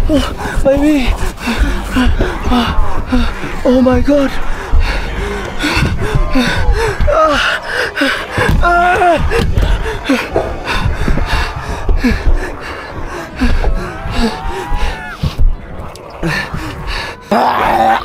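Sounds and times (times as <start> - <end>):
person gasping and crying: 0.0 - 15.2
scuffling noise: 0.0 - 17.2.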